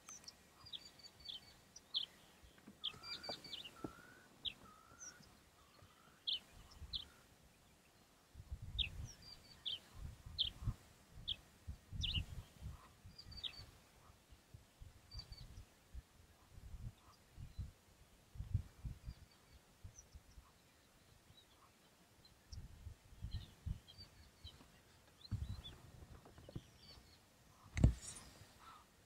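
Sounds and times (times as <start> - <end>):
birds chirping: 0.0 - 16.0, 18.5 - 28.9.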